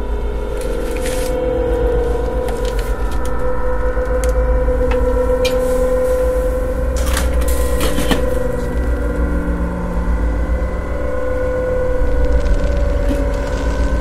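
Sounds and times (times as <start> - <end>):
droning hum: 0.0 - 14.0
low rumble: 0.0 - 14.0.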